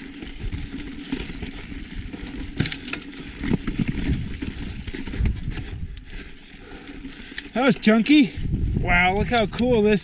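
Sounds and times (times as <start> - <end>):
bike knocking and rattling on rocks: 0.0 - 8.2
rush of riding noise: 0.0 - 10.0.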